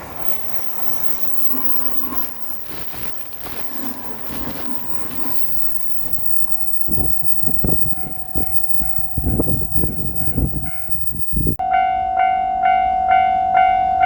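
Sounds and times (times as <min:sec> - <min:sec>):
steady mid-pitched tone: 0:00.0 - 0:11.6
train wheels clattering over rail joints: 0:00.0 - 0:11.6.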